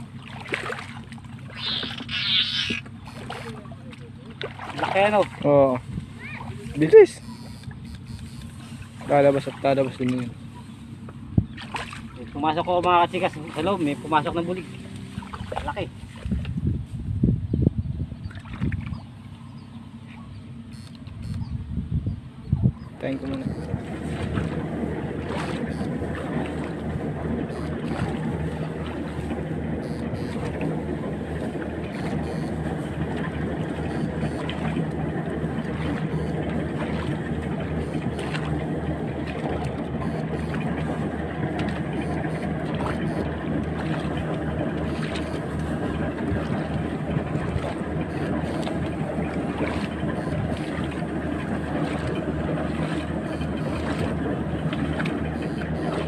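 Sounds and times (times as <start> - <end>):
small engine running: 0.0 - 16.1, 19.2 - 21.6, 23.0 - 56.0.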